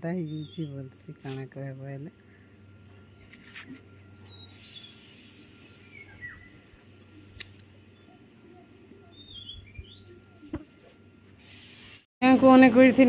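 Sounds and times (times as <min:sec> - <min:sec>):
faint bird chirps: 0:00.1 - 0:10.8.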